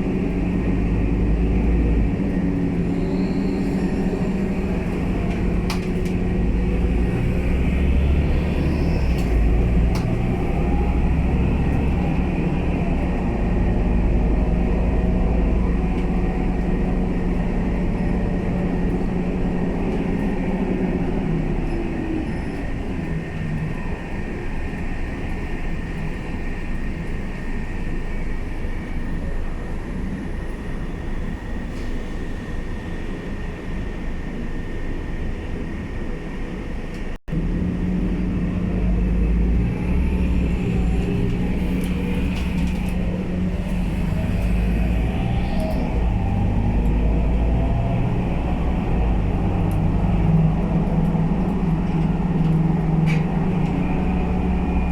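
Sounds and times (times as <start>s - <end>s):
bus diesel engine running: 0.0s - 54.9s
low road rumble: 0.0s - 54.9s.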